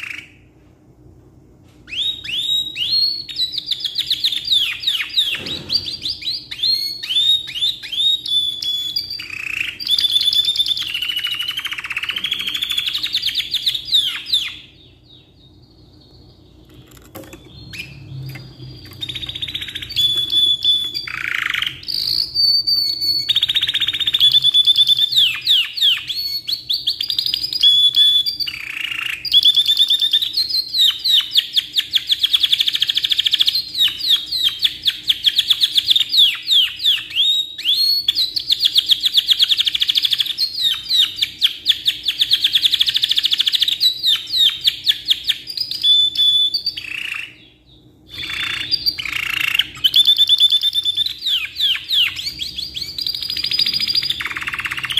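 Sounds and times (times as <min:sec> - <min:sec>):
canary singing trills: 0:00.0 - 0:00.5, 0:01.9 - 0:54.9.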